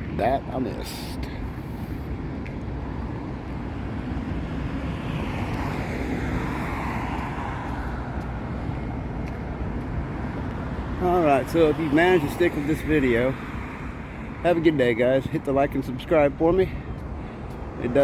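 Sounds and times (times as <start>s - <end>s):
outdoor traffic noise: 0.0s - 18.0s
vehicle passing: 0.9s - 18.0s.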